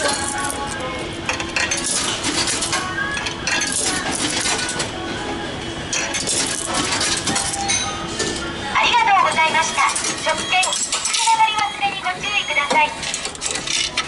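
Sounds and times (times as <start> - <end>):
coins clinking into vending machine: 0.0 - 4.9, 5.9 - 11.9, 12.6 - 14.0.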